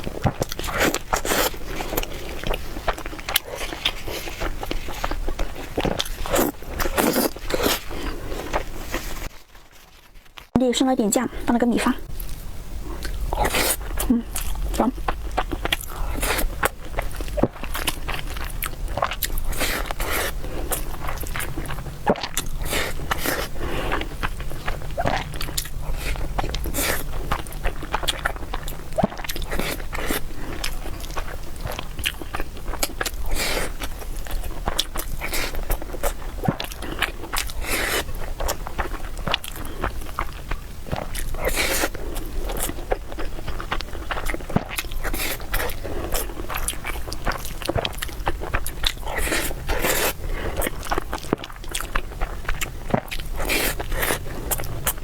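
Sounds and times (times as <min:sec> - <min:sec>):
person chewing food: 0:00.0 - 0:10.6, 0:11.4 - 0:55.0.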